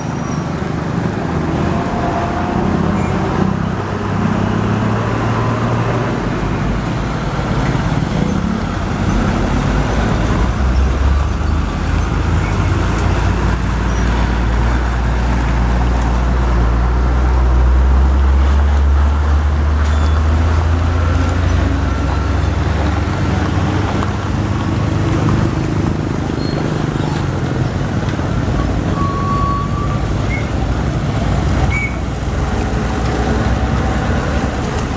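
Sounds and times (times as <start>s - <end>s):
heavy truck engine drone: 0.0s - 34.9s
traffic noise: 0.0s - 34.9s.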